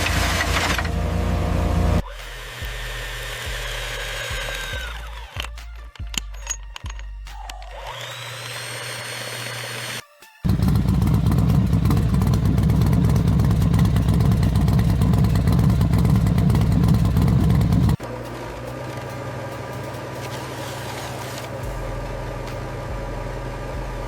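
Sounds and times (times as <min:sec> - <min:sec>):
engine running with low pulse: 0:00.0 - 0:08.7, 0:09.4 - 0:24.0.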